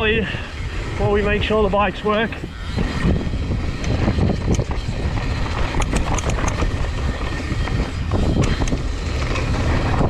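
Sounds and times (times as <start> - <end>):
bike rattling: 0.0 - 10.0
bike tyres on dirt and stones: 0.0 - 10.0
wind buffeting microphone: 0.0 - 10.0.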